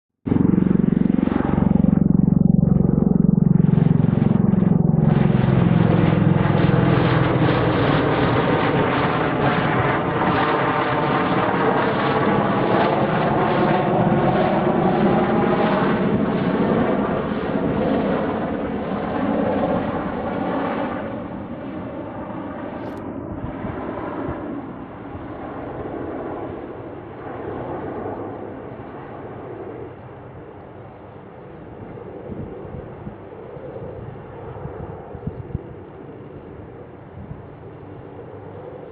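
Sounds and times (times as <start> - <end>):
tiltrotor aircraft droning: 0.2 - 38.9.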